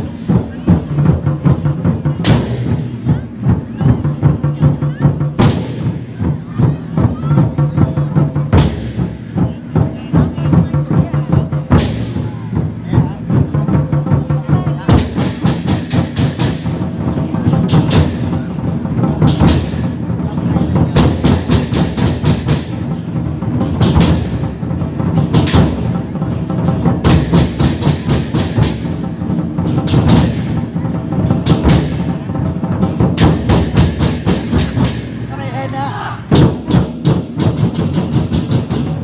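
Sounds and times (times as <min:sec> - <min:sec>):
big drum beating fast: 0:00.0 - 0:39.0.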